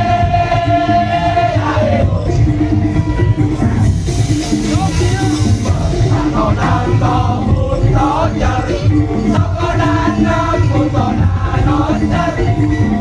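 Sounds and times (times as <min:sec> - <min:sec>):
percussion ensemble drum beat: 0:00.0 - 0:13.0.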